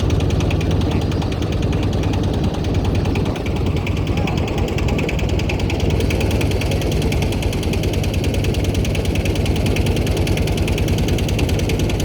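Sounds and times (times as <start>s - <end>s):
engine running with knocking: 0.0s - 12.0s.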